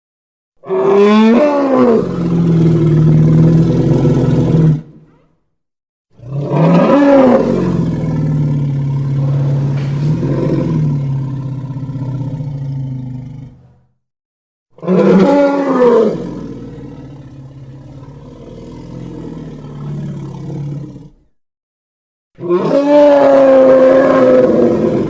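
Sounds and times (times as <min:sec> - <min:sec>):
deep monstrous roars: 0:00.6 - 0:05.0, 0:06.2 - 0:13.9, 0:14.8 - 0:21.3, 0:22.4 - 0:25.0.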